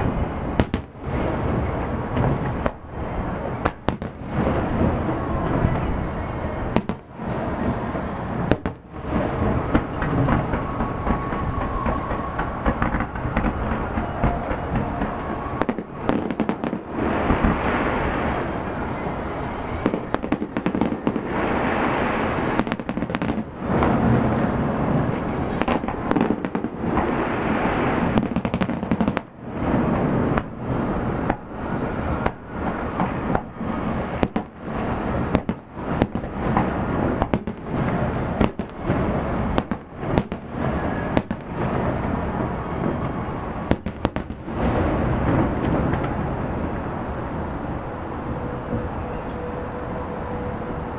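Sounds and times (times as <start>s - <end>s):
continuous rumble: 0.0s - 50.9s.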